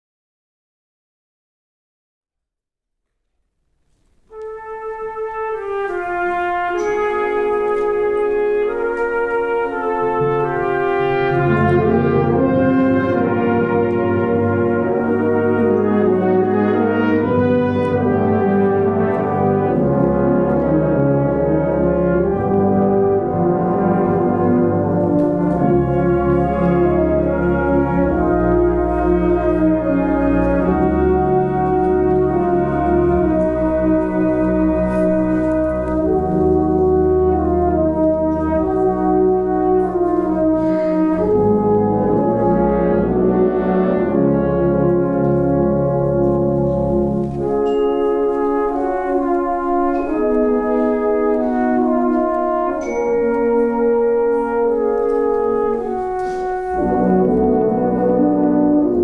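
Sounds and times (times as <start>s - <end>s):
brass band playing a hymn: 4.0s - 59.0s.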